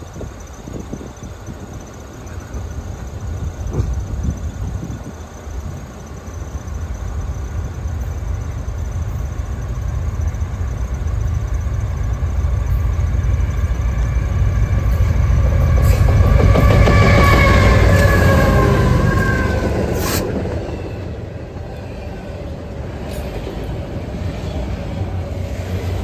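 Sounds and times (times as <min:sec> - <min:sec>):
diesel locomotive engine rumble: 0:00.0 - 0:26.0.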